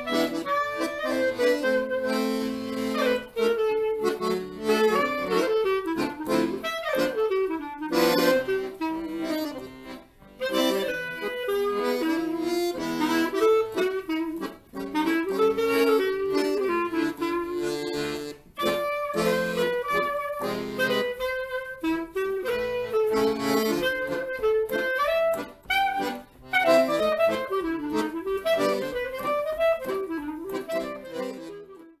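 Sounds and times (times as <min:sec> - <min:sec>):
accordion chords: 0:00.0 - 0:32.0
clarinet melody: 0:00.0 - 0:32.0.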